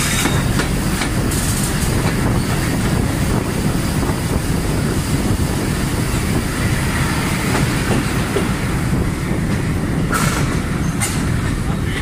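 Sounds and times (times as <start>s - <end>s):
locomotive engine and wheels rumbling: 0.0s - 12.0s.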